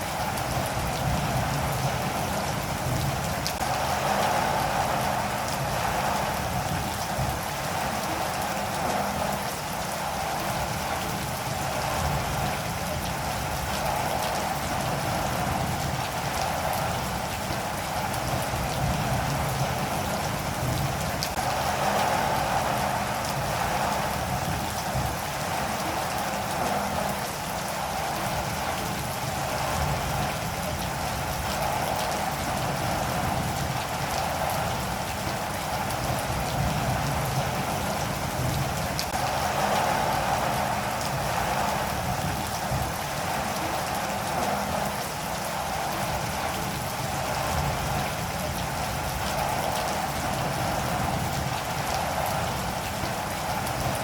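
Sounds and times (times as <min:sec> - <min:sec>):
raindrops ticking on surface: 0:00.0 - 0:54.0
steady rain hiss: 0:00.0 - 0:54.0.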